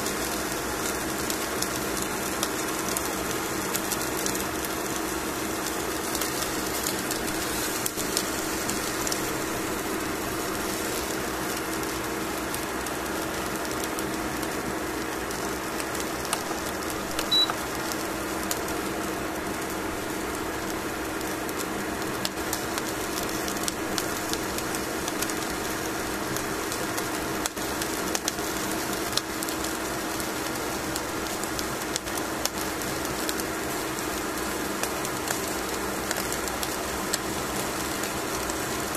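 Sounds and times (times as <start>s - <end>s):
fish sizzling on grill: 0.0s - 38.9s.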